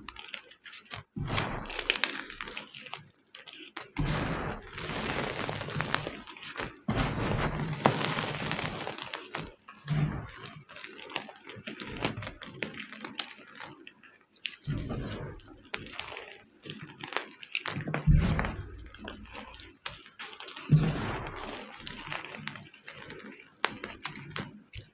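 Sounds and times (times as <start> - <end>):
chalk crunching and crackling: 0.0 - 13.9, 14.5 - 24.9.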